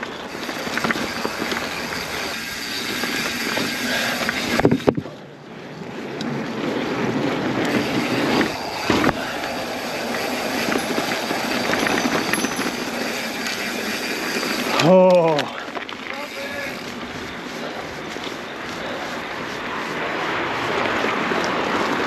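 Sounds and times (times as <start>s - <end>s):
bike rattling: 0.0s - 22.0s
bike riding on rough trail: 0.0s - 22.0s.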